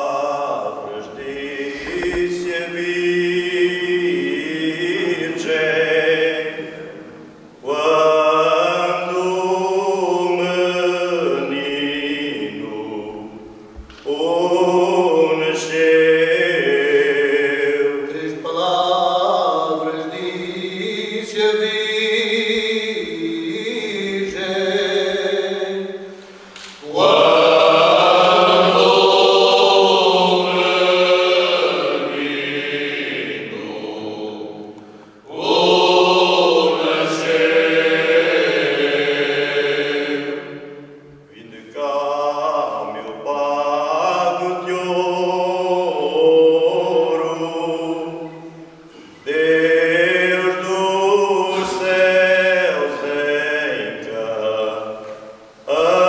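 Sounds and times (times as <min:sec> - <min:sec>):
men's choir singing unaccompanied: 0:00.0 - 0:56.0.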